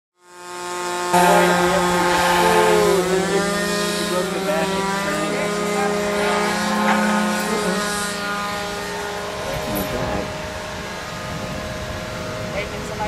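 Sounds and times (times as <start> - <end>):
model airplane engine buzzing: 0.2 - 13.0.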